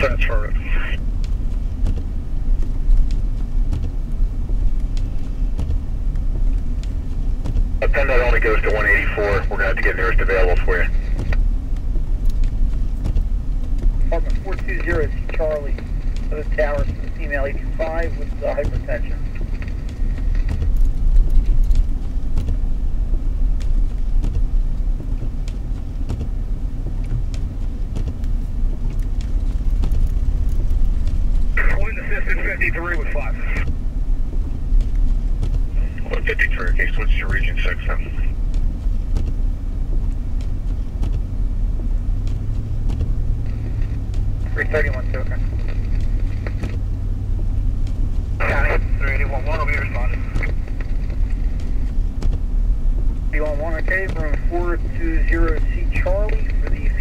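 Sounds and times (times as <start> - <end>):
car engine and road drone: 0.0 - 57.0.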